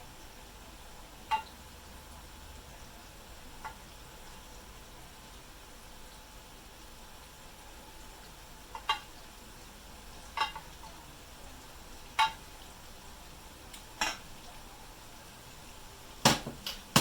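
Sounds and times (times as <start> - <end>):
chicken frying in oil sizzling: 0.0 - 16.2.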